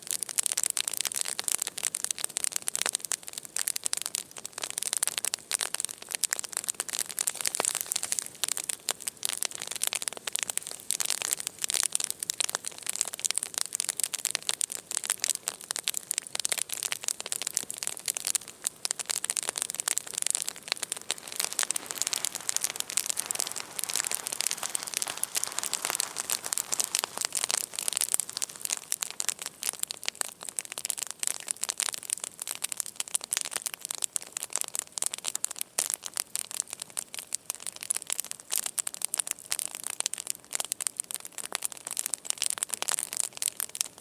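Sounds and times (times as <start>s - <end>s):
campfire crackling: 0.0s - 44.0s.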